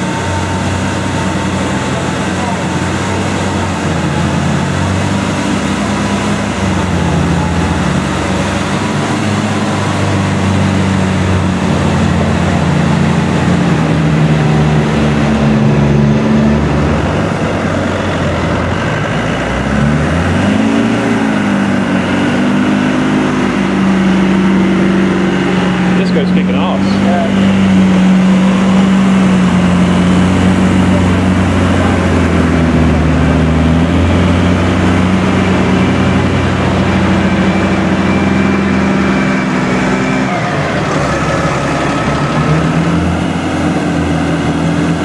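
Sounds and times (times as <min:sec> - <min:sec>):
engines straining under load: 0:00.0 - 0:45.0.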